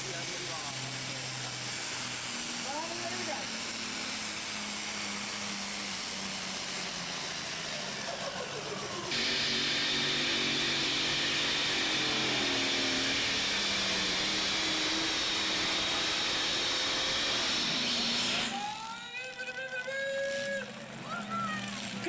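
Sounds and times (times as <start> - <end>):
vehicle engine running under load: 0.0 - 22.0.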